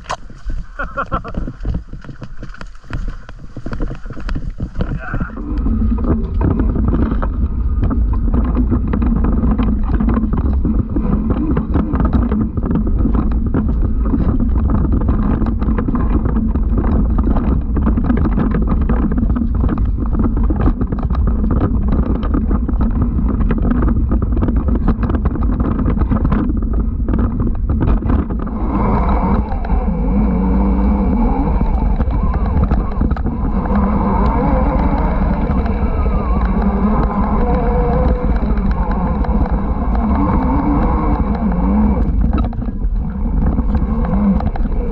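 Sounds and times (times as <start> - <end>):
dirt bike riding over rough trail: 0.0 - 44.9
rapid rattling knocks: 1.0 - 44.9
steady whining tone: 4.0 - 44.9.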